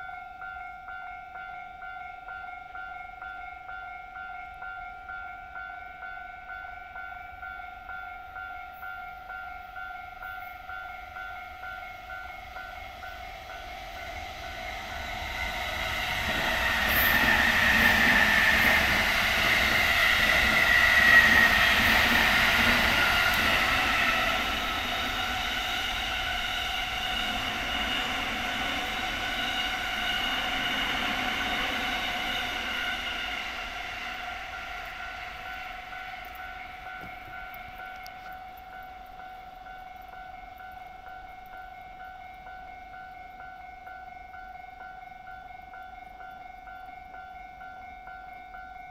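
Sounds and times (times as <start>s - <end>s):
crossing warning bell ringing: 0.0s - 48.9s
train passing: 0.0s - 48.9s.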